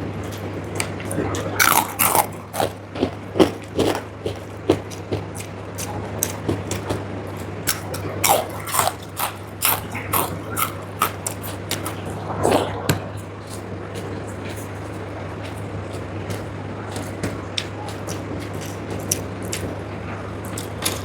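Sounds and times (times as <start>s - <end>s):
steady low hum: 0.0s - 21.0s
moist chewing and lip smacks: 0.1s - 12.2s, 13.5s - 21.0s.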